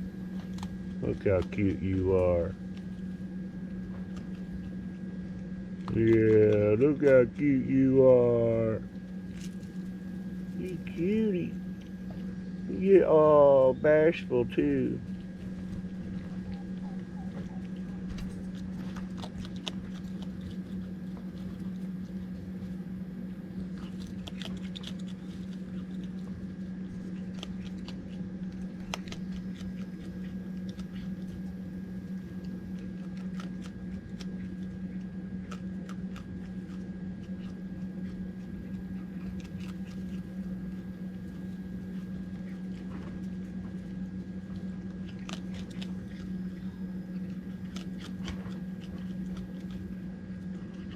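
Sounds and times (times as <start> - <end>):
low steady hum: 0.0 - 50.9
raccoon crunching dry food: 0.0 - 50.9.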